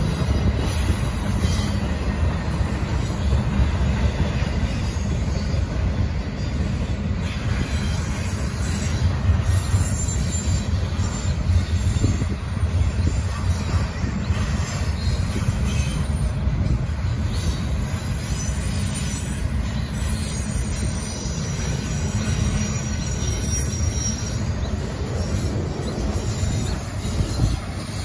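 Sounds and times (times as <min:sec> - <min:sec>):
freight train wheels rumbling on rails: 0:00.0 - 0:28.0.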